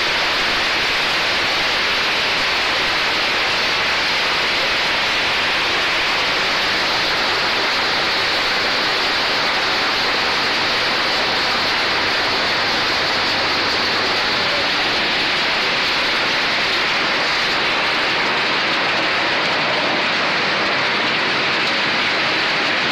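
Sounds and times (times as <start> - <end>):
machine running: 0.0 - 22.9
water rushing and splashing: 0.0 - 22.9.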